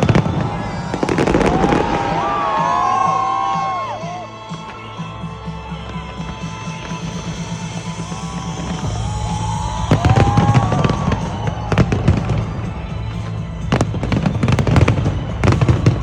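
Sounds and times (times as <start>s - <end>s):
firework bangs and crackles: 0.0s - 16.0s
music: 0.0s - 16.0s.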